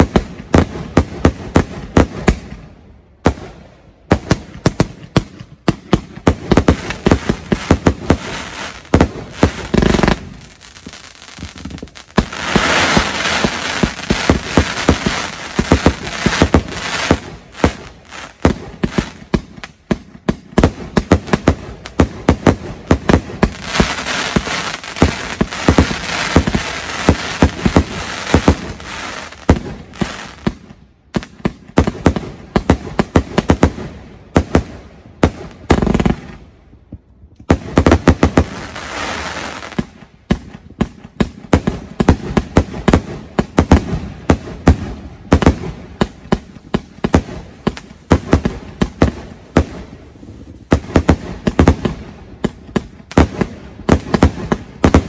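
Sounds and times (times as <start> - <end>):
fireworks bursting: 0.0 - 55.0
firework crackle: 3.2 - 36.4, 37.4 - 55.0.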